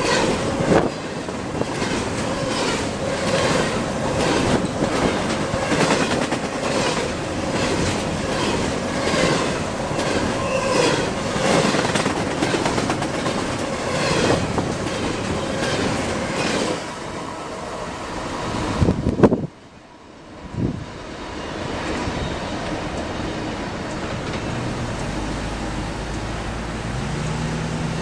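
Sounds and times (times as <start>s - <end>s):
wheels clacking over rails: 0.0s - 17.2s, 22.5s - 28.0s
freight train rumbling: 0.0s - 28.0s.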